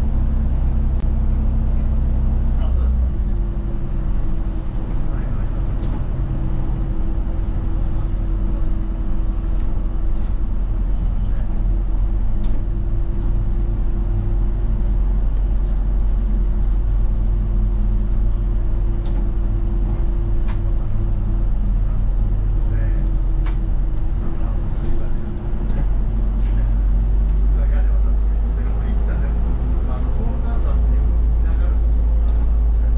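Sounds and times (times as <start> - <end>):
bus engine running: 0.0 - 32.9.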